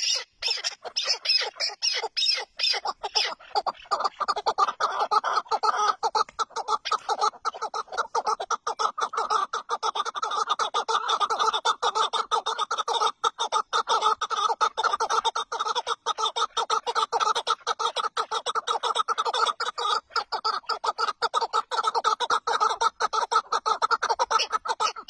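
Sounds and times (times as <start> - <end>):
partridges clucking and chattering: 0.0 - 25.0.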